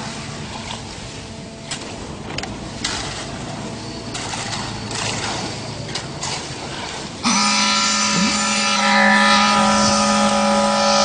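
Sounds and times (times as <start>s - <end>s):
concrete mixer engine hum: 0.0s - 11.0s.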